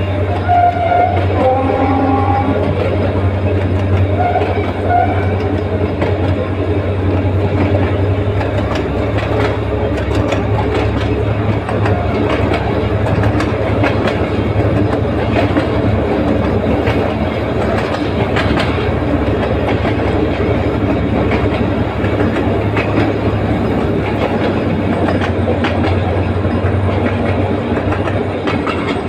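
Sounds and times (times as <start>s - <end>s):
train rumble: 0.0s - 29.0s
wheels clicking over rail joints: 0.0s - 29.0s.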